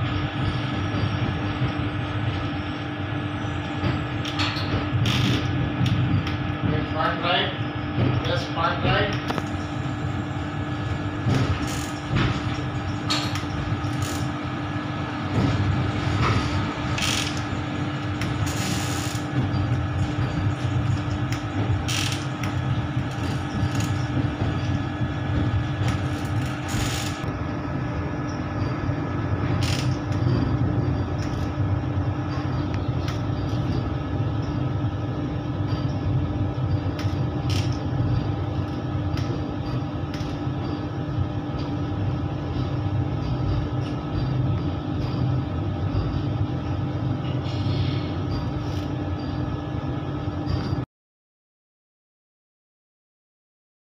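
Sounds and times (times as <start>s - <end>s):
electric train hum and whine: 0.0s - 50.9s.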